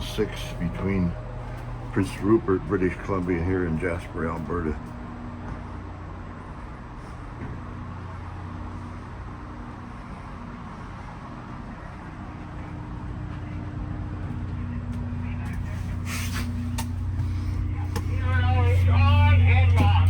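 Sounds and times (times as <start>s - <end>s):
rail car ventilation hum: 0.0s - 20.0s.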